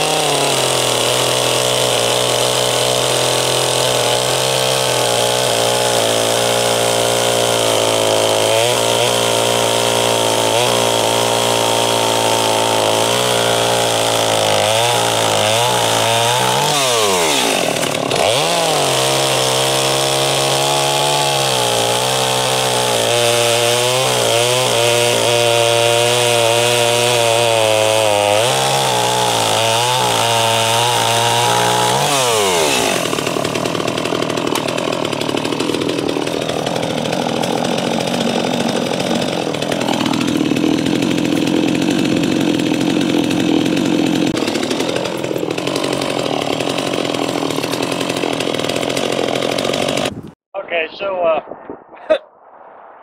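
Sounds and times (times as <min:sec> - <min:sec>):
chainsaw cutting through log: 0:00.0 - 0:50.4.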